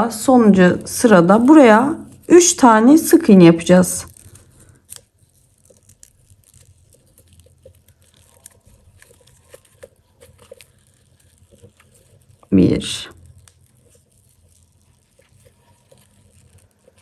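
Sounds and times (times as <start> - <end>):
yarn rustling through stitches: 0.3 - 17.0.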